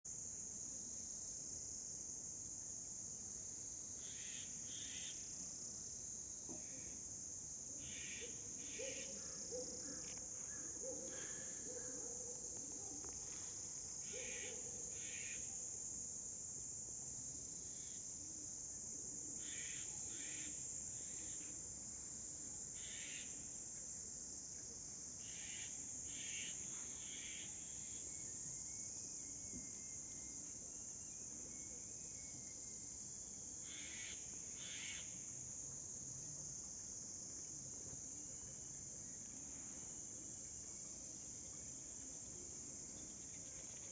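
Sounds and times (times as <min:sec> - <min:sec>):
insect chirps: 0:00.1 - 0:43.9.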